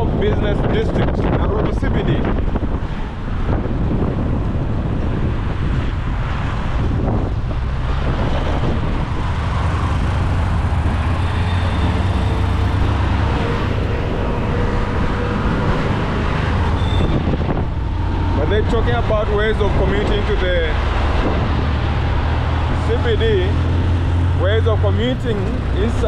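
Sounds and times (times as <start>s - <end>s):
road traffic: 0.0s - 26.0s
wind rushing over microphone: 0.0s - 26.0s.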